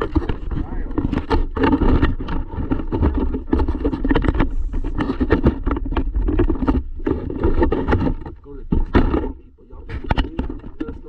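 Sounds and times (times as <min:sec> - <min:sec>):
toy truck tyres rumbling: 0:00.0 - 0:11.0
wind on microphone: 0:00.0 - 0:11.0.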